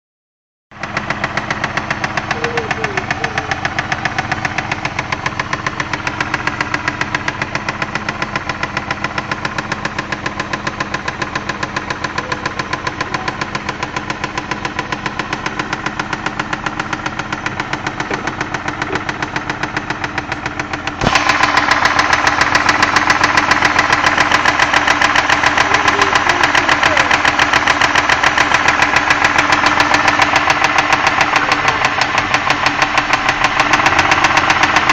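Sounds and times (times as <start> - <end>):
car engine running with knock: 0.8 - 34.9.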